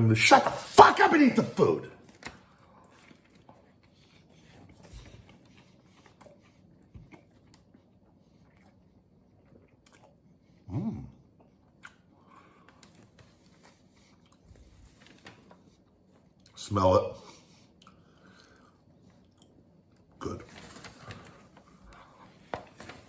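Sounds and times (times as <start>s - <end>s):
man chewing sandwich: 2.2s - 16.6s, 17.3s - 23.0s.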